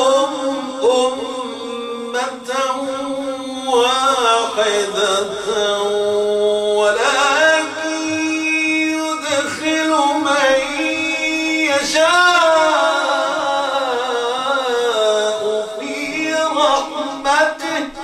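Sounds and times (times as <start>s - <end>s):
man reciting in melodic chant: 0.0s - 18.0s.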